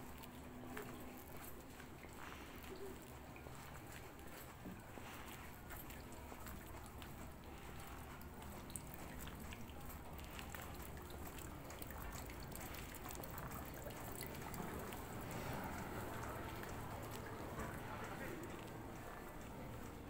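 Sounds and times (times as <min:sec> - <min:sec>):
light clicks and drips: 0:00.0 - 0:20.0
low outdoor hum: 0:00.0 - 0:20.0
water trickling in stone gutter: 0:00.0 - 0:20.0.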